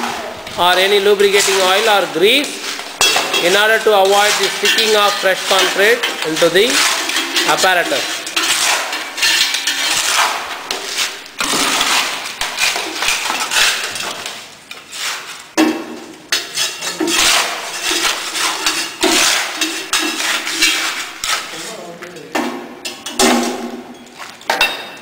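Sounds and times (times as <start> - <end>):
trowel scraping concrete: 0.0 - 15.5, 16.3 - 22.0.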